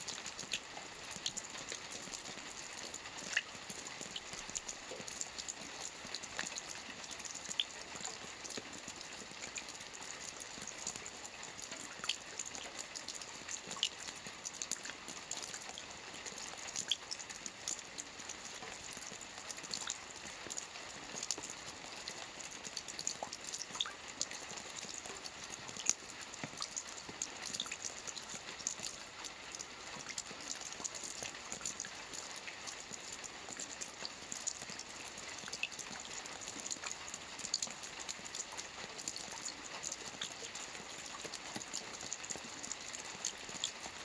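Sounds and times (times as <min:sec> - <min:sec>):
soft rain on a roof: 0:00.0 - 0:44.0.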